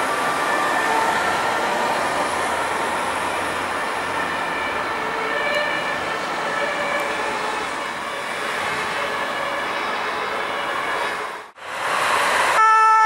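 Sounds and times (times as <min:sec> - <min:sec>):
cars passing on wet road: 0:00.0 - 0:09.0, 0:11.4 - 0:13.0
distant two-tone sirens: 0:00.0 - 0:13.0.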